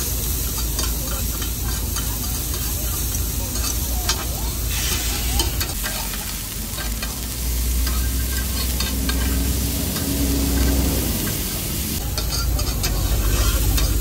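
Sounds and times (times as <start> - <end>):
cooking utensil clicks and scrapes: 0.0 - 14.0
meat sizzling on a grill: 0.0 - 14.0.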